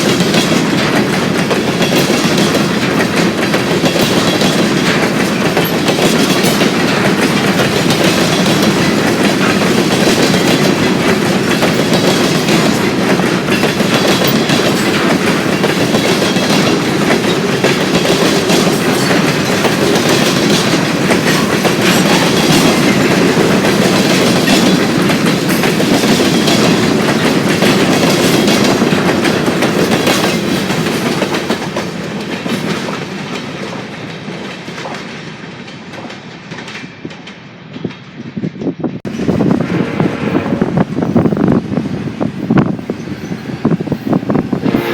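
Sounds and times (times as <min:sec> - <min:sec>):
freight train rumbling past: 0:00.0 - 0:44.9
train wheels clickety-clack: 0:00.0 - 0:44.9.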